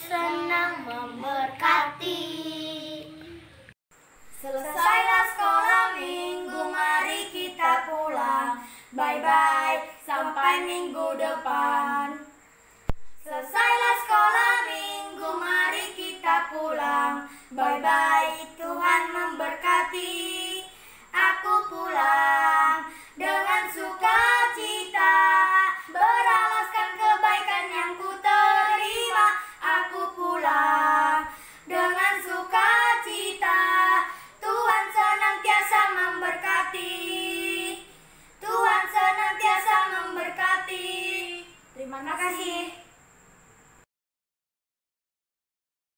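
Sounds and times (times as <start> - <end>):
children singing together: 0.0 - 3.5, 4.3 - 12.3, 13.2 - 41.6.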